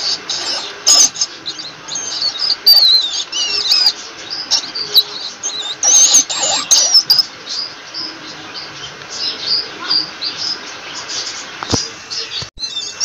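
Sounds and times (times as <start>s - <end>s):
rodents squeaking: 0.0s - 13.0s.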